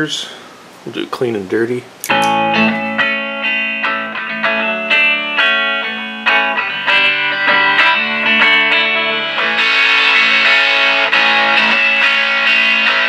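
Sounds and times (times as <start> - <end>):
electric guitar notes and chords: 2.0 - 13.0.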